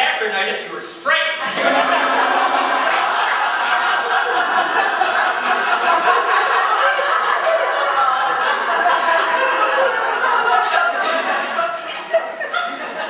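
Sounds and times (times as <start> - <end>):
audience laughing: 1.4 - 13.0.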